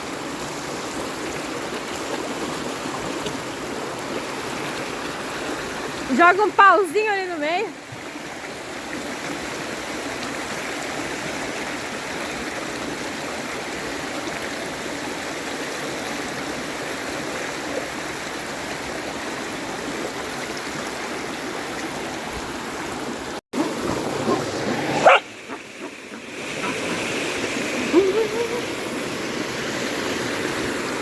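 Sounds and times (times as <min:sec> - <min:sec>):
creek rushing: 0:00.0 - 0:31.0.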